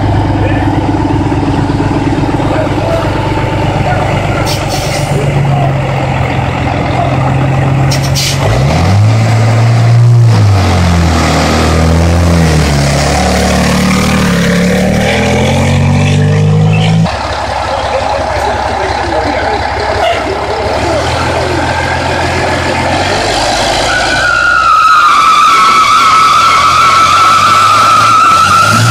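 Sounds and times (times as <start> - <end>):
truck diesel engine revving: 0.0 - 28.9.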